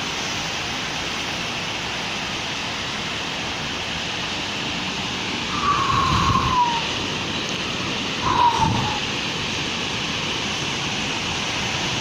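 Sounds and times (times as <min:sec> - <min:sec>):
rain on a city street: 0:00.0 - 0:12.0.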